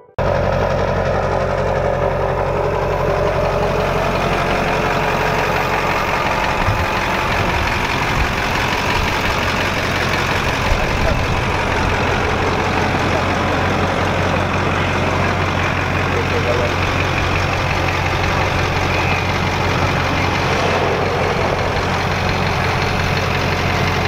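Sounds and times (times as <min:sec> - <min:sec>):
diesel truck engine idling: 0:00.2 - 0:24.0.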